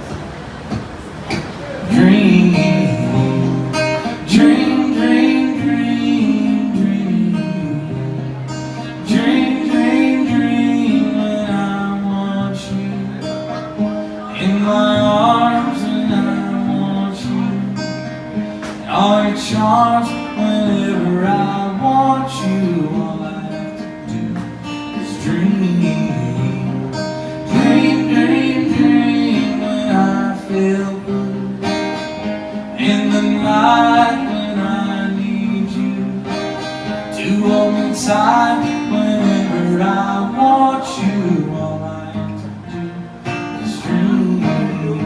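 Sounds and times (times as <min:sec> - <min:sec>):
acoustic guitar strumming: 0:00.0 - 0:45.0.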